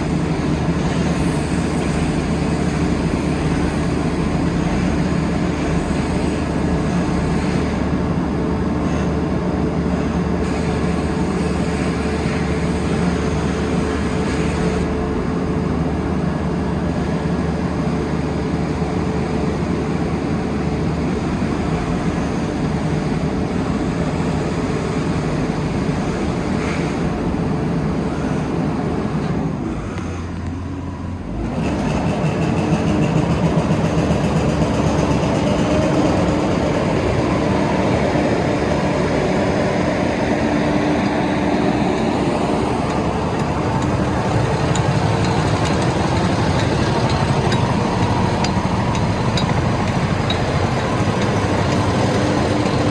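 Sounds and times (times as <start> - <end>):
diesel engine rumbling: 0.0 - 30.0, 30.7 - 52.9.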